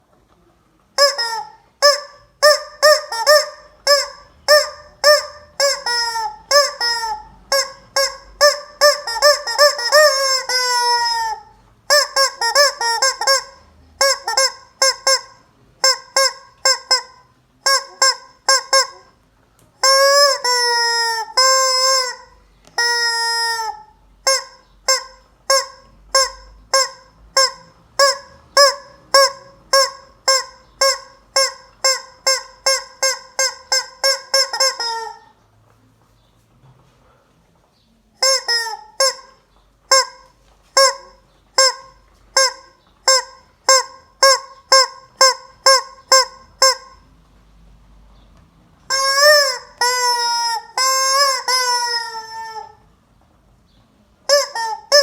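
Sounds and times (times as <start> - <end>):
chicken squawking: 1.0 - 19.2, 19.8 - 35.4, 38.2 - 47.0, 48.9 - 52.9, 54.3 - 55.0.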